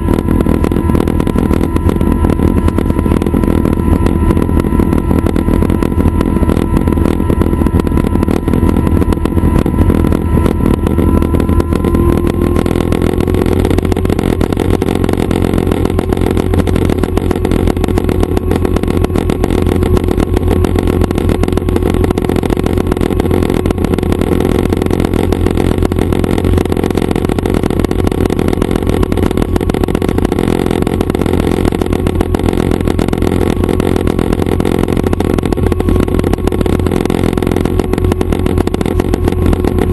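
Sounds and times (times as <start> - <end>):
faint whine: 0.0 - 39.9
helicopter engine and rotor drone: 0.0 - 39.9.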